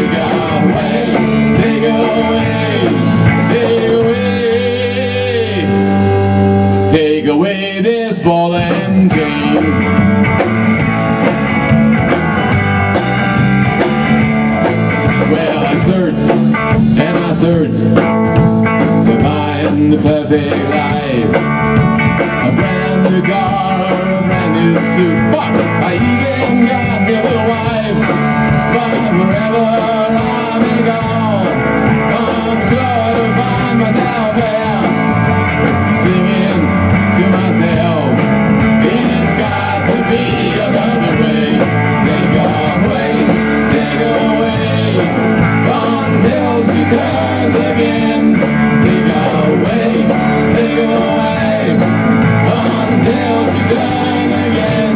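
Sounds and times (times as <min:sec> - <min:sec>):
electric guitar bent notes: 0:00.0 - 0:54.9
rock band instrumental: 0:00.0 - 0:54.9.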